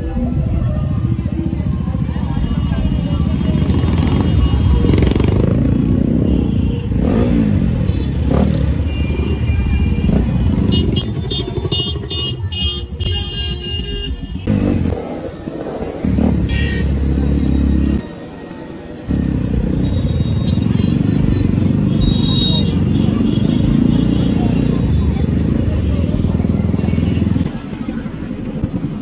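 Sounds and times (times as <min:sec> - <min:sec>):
motorcycle engine revving: 0:01.0 - 0:12.8, 0:14.3 - 0:18.0, 0:19.1 - 0:29.0.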